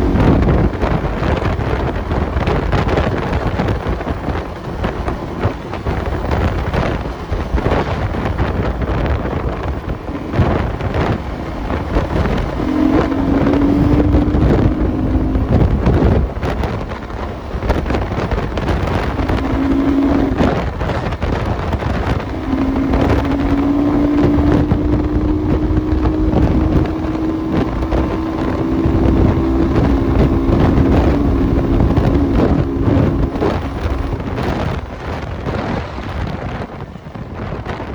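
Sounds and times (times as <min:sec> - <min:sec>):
motorcycle engine running: 0:00.0 - 0:37.9
wind on microphone: 0:00.0 - 0:37.9.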